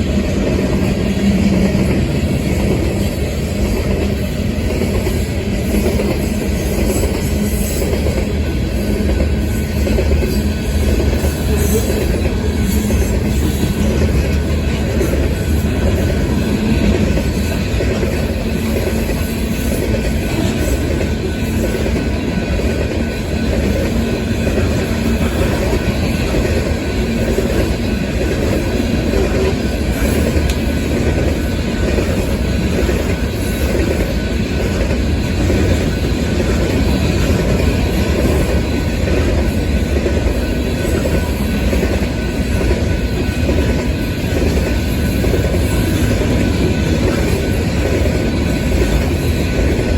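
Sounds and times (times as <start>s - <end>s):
freight train rumbling past: 0.0s - 49.9s
wheel clatter on rail joints: 0.0s - 49.9s.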